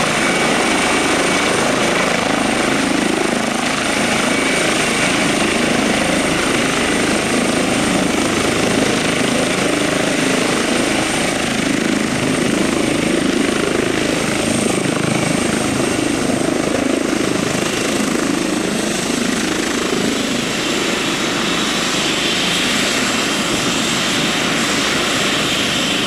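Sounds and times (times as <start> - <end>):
helicopter rotor and engine: 0.0 - 26.0
high-pitched turbine whine: 0.0 - 26.0.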